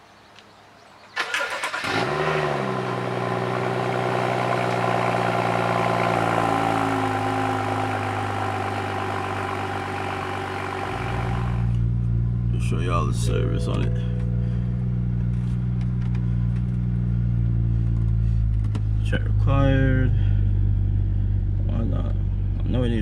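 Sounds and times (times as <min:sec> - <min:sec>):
car engine idling: 0:01.4 - 0:23.0.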